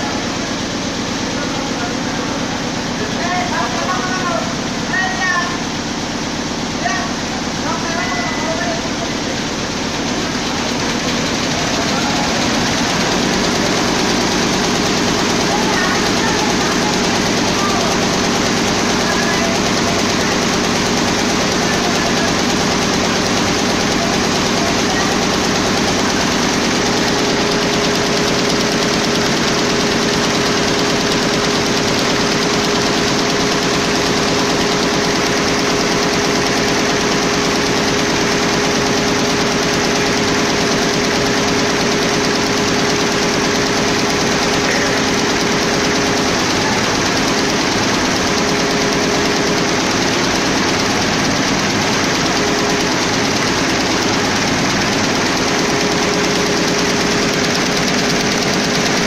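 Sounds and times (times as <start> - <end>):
embroidery machine clattering: 0.0 - 59.0.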